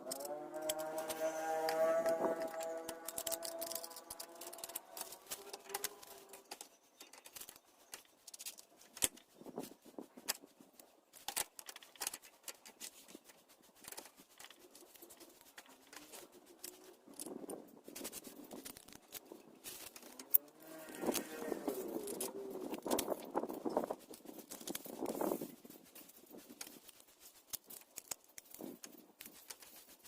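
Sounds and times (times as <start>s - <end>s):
hand tools clicking and tapping: 0.0s - 9.3s, 11.1s - 25.4s, 26.0s - 30.0s
metal parts being handled: 0.0s - 9.4s, 10.2s - 30.0s.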